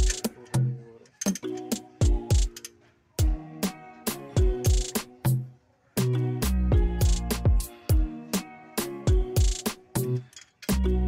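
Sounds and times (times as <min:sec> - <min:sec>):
hip hop beat: 0:00.0 - 0:11.0.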